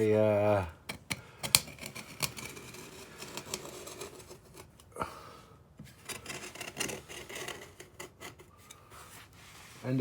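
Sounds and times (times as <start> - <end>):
hand tool scraping caulking: 1.0 - 4.9, 5.8 - 10.0.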